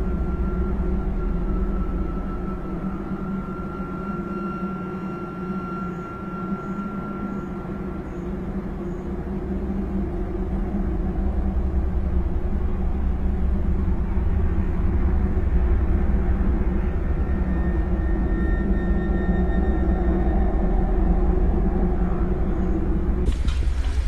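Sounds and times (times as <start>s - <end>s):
low droning rumble: 0.0s - 24.0s.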